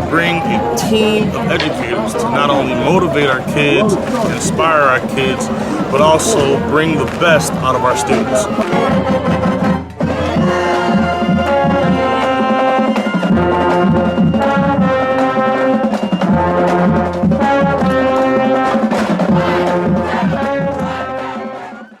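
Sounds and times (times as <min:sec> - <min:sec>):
steady drum beat: 0:00.0 - 0:18.2
brass holding chords: 0:00.0 - 0:21.7.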